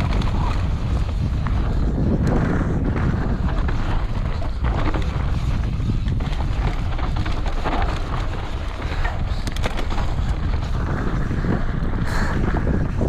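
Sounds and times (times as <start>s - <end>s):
bike clicks and rattles: 0.0s - 13.0s
bike tyres rumbling on dirt: 0.0s - 13.0s
wind buffeting microphone: 0.0s - 13.0s.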